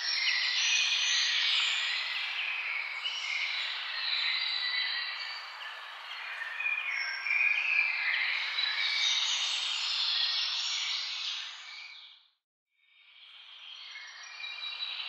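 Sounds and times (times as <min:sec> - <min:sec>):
small birds chirping: 0:00.0 - 0:12.2.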